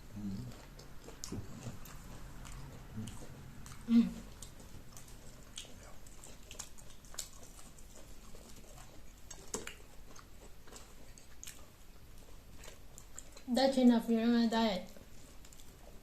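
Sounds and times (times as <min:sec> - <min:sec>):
soft chewing mouth sounds: 0:00.0 - 0:16.0.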